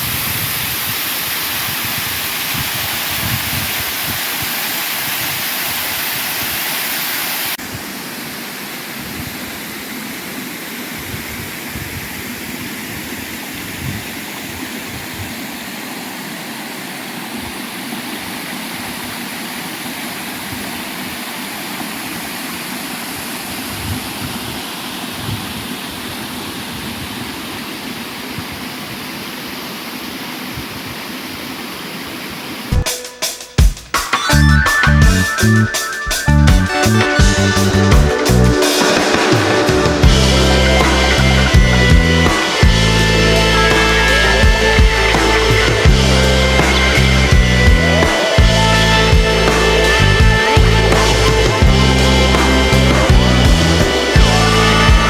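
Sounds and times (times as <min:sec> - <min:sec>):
waterfall rushing: 0:00.0 - 0:32.9, 0:34.2 - 0:55.0.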